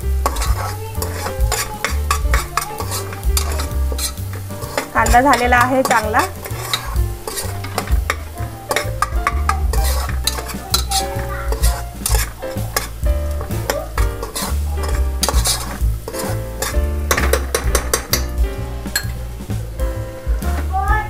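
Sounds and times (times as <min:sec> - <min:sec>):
background music with bass: 0:00.0 - 0:21.0
onions sizzling in oil: 0:00.0 - 0:21.0
spoon scraping metal pot: 0:00.2 - 0:18.3.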